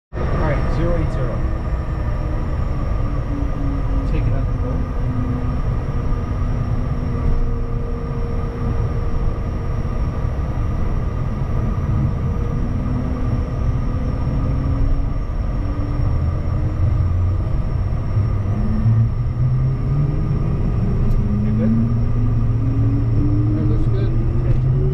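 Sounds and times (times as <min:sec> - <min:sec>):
jet engine high whine: 0:00.1 - 0:24.9
jet engines low rumble: 0:00.1 - 0:24.9.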